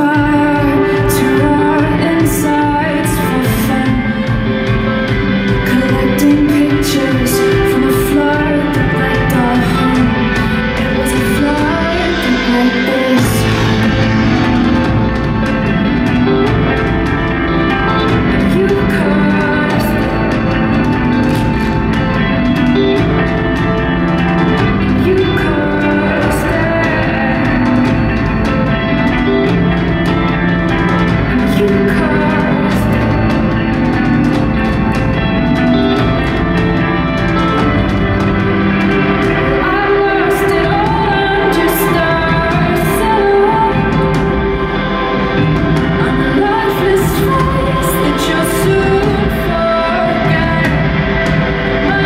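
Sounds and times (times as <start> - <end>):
slow pop song chords: 0.0 - 52.0.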